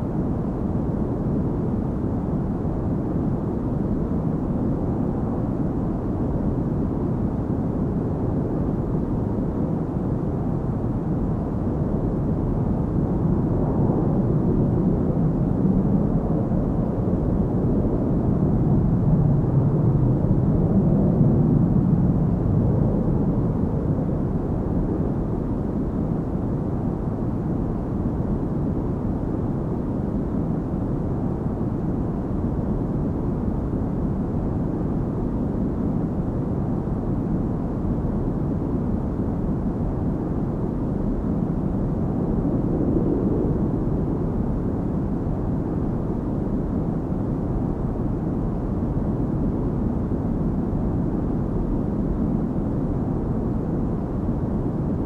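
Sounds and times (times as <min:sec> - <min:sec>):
jet airliner cabin drone: 0:00.0 - 0:55.0.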